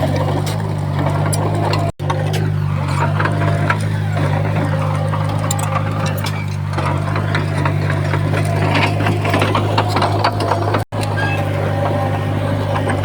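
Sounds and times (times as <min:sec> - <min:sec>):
bulldozer diesel engine drone: 0:00.0 - 0:13.0
steel tracks clanking: 0:00.0 - 0:13.0.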